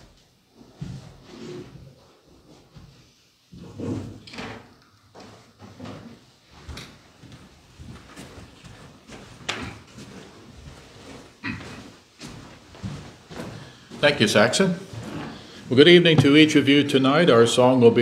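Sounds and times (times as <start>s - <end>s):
people moving and handling things: 0.0s - 17.2s.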